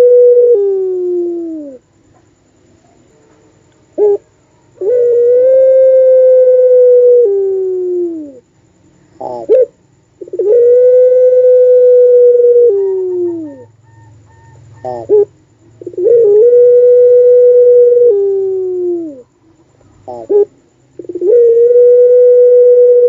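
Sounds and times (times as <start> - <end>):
dove cooing long: 0.0 - 1.9, 4.0 - 8.5, 9.1 - 19.4, 20.0 - 23.0.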